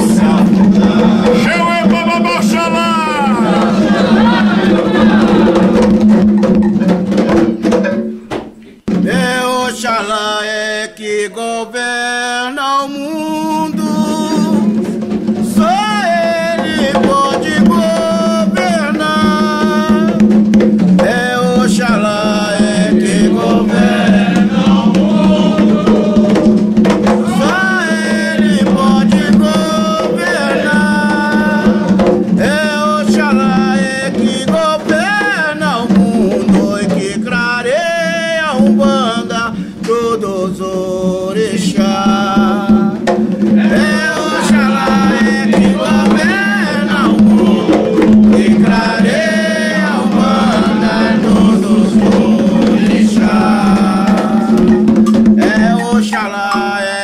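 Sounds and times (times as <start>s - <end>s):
man singing devotional chant: 0.0s - 3.6s, 8.9s - 14.8s, 15.4s - 26.6s, 27.2s - 54.8s, 55.4s - 57.0s
hand drums: 0.0s - 9.6s, 13.2s - 57.0s.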